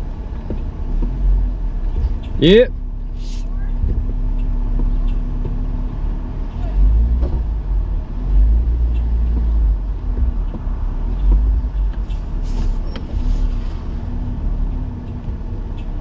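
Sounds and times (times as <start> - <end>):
car engine low rumble: 0.0 - 16.0.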